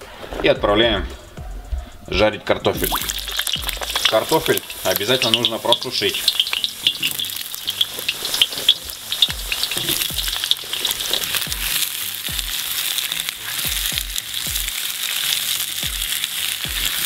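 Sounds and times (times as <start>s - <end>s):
potatoes sizzling in oil: 2.8s - 17.0s.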